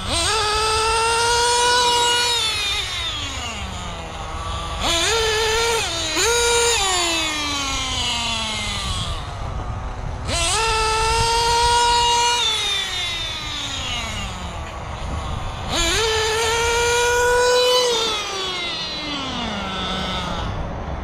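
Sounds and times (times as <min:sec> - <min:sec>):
small nitro engine revving: 0:00.0 - 0:21.0.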